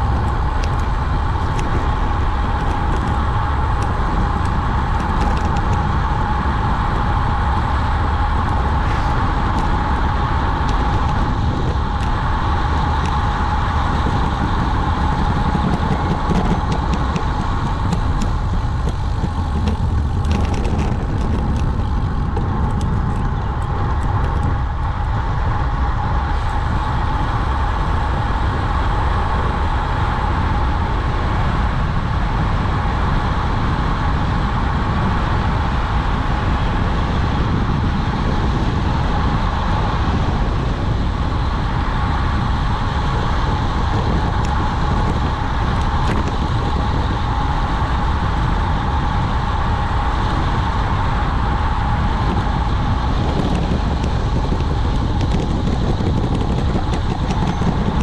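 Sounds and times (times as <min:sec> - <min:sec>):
road and tyre rumble: 0:00.0 - 0:58.0
wind rushing over microphone: 0:00.0 - 0:58.0.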